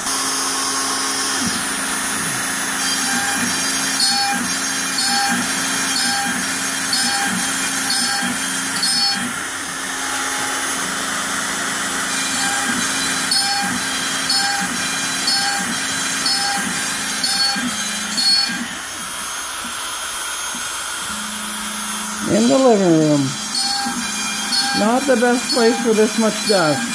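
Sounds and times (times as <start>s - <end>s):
router milling wood: 0.0s - 26.9s.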